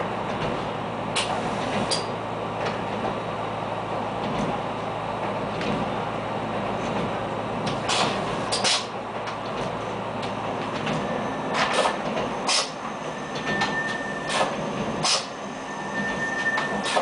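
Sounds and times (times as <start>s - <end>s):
low engine hum: 0.0s - 13.7s
railbus running rumble: 0.0s - 17.0s.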